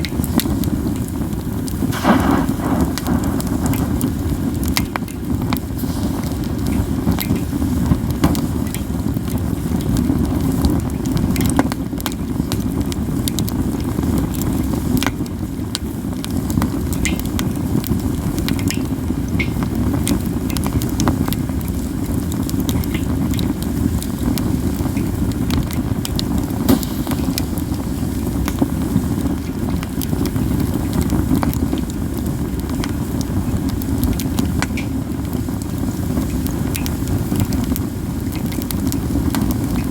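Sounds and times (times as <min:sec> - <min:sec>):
campfire crackling: 0:00.0 - 0:39.9
low rush of fire: 0:00.1 - 0:39.9.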